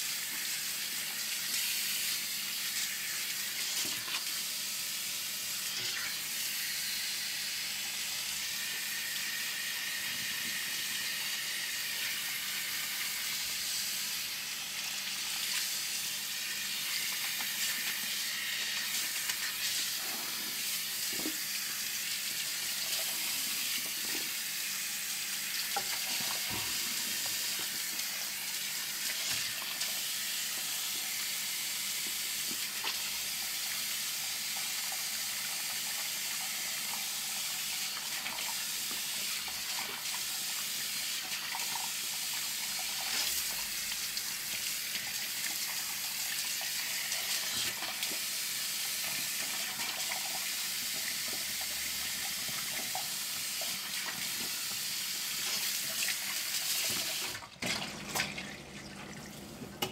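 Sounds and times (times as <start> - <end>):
shower head spraying water: 0.0 - 57.4.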